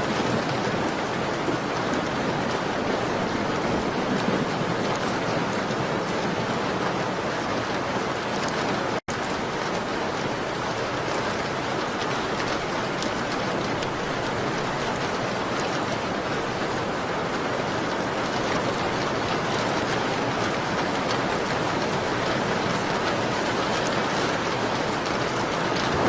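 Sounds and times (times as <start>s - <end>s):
rain on a window: 0.0s - 26.0s.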